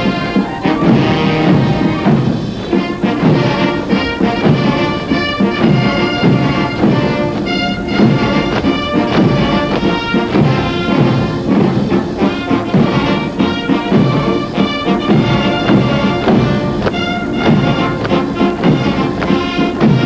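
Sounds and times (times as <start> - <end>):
military band playing a march: 0.0 - 20.0.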